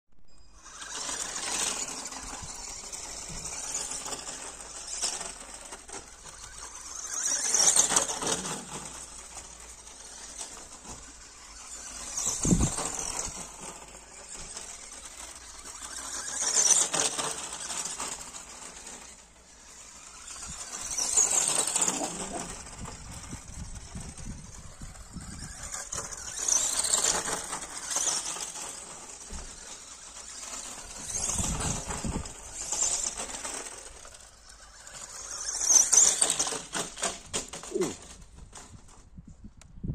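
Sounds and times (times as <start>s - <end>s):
toy truck motor whirring: 0.3s - 39.2s.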